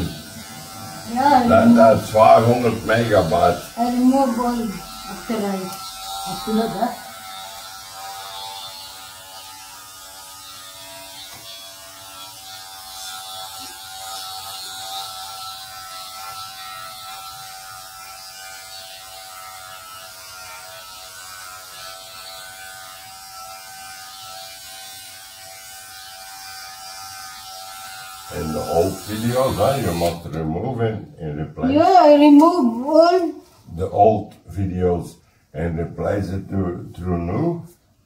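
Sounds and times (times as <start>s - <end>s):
electric hair clippers buzzing: 0.0s - 30.5s.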